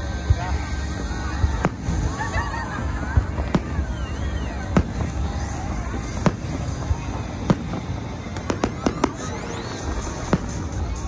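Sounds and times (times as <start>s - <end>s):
fireworks crackling volley: 0.0s - 11.0s
fireworks bangs: 0.2s - 11.0s
rising firework whistle: 0.7s - 11.0s.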